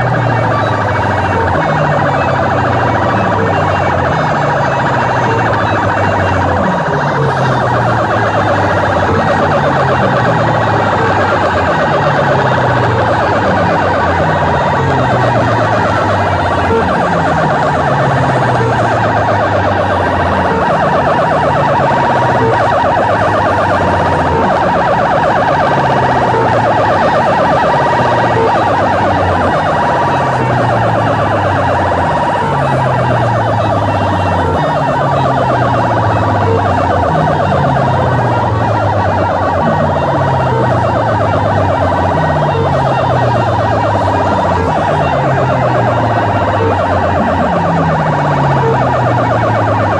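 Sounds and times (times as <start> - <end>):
distorted siren-like electronic music: 0.0 - 49.9.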